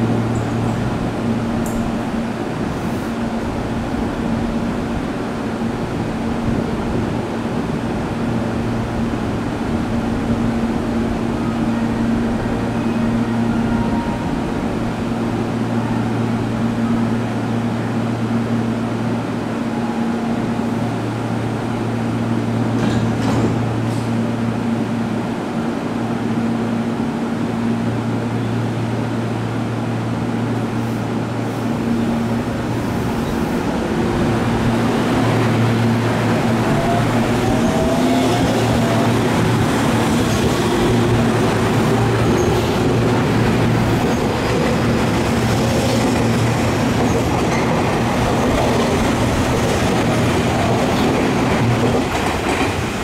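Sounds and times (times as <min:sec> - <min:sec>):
electric train low hum: 0:00.0 - 0:53.0.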